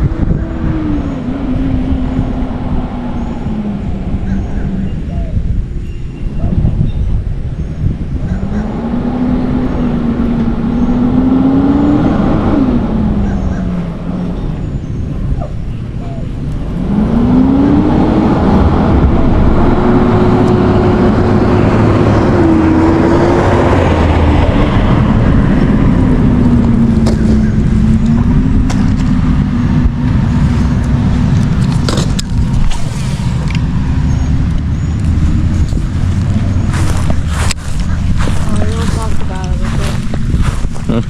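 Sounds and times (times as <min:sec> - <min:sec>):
boat motor droning: 0:00.0 - 0:06.0, 0:08.0 - 0:41.0
rush of wind and water: 0:00.0 - 0:41.0.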